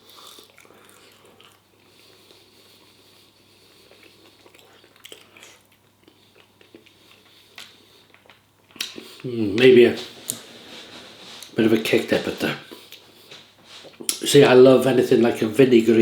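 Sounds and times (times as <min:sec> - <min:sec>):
person chewing food: 0:00.0 - 0:11.6, 0:12.7 - 0:14.2.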